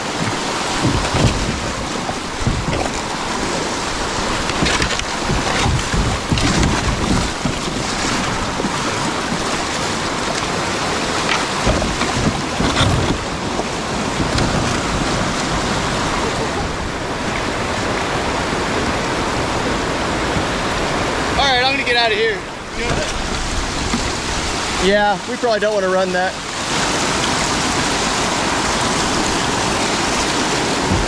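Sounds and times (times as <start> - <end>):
wind buffeting microphone: 0.0 - 25.1, 26.4 - 31.0
rushing whitewater: 0.0 - 31.0
water splashing against hull: 0.0 - 31.0.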